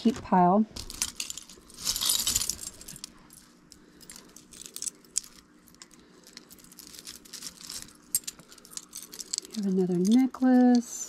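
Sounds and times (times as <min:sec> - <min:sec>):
metal jewelry jangling: 0:00.8 - 0:10.8.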